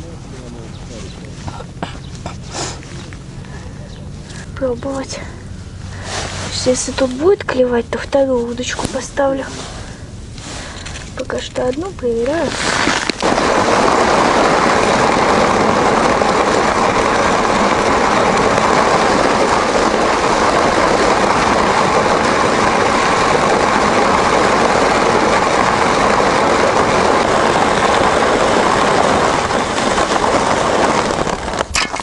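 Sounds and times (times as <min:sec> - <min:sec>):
sled scraping over ice: 0:05.8 - 0:32.0.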